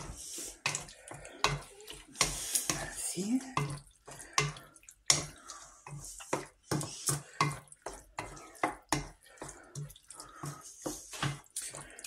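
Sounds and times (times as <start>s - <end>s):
wooden spatula stirring wet filling: 0.0s - 12.0s.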